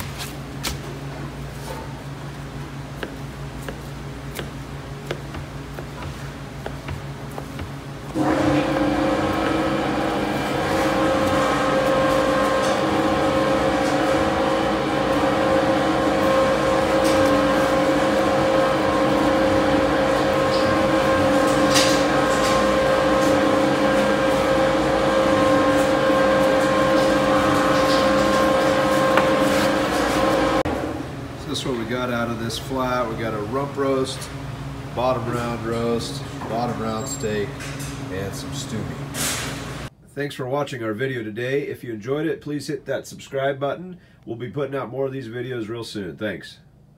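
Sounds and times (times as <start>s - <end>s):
loud machine hum: 2.1s - 39.9s.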